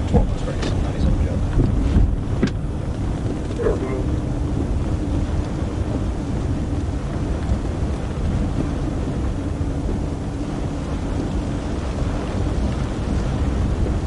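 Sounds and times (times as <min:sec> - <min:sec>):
low engine hum: 0:00.0 - 0:14.0
road and wind noise: 0:00.0 - 0:14.0.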